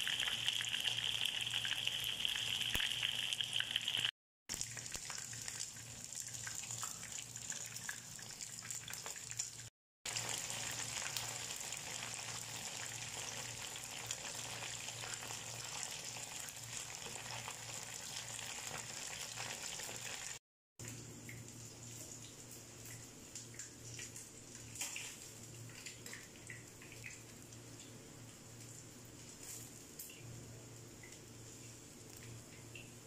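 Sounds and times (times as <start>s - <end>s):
deep-frying sizzle in hot oil: 0.0s - 33.0s.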